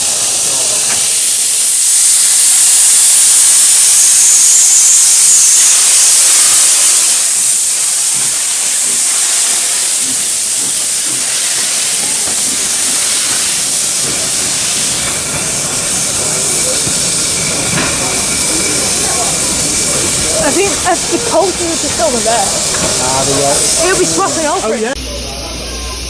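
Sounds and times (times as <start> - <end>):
steam locomotive hissing steam: 0.0 - 26.0.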